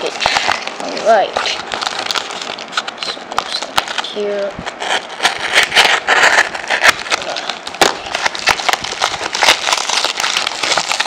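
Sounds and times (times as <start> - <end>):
paper mailer tearing and crinkling: 0.0 - 11.0.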